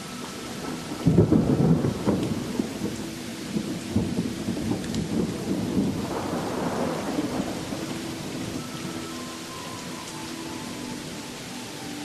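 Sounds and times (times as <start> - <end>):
thunder rumbling: 0.0 - 11.2
steady rain: 0.0 - 12.0.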